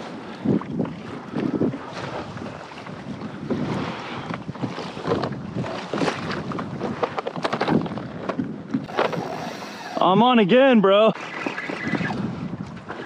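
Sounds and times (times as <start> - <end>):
wind buffeting the microphone: 0.0 - 10.8, 11.5 - 13.0
waves slapping against a hull: 0.0 - 13.0.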